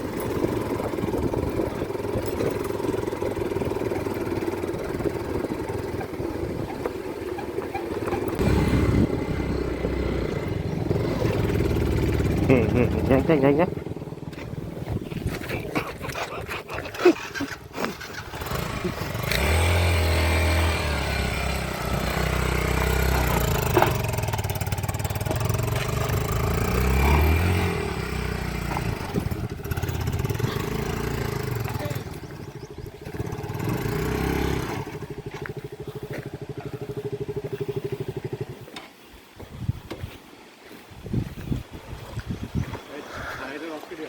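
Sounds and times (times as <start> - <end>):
vehicle engine rumbling: 0.0 - 43.4.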